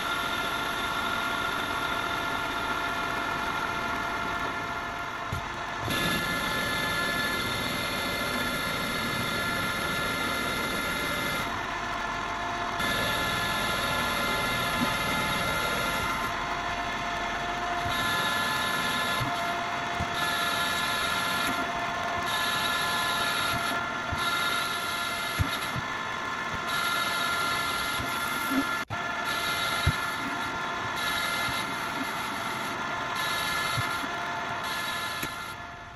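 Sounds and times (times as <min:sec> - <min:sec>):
metal lathe whine: 0:00.0 - 0:35.9.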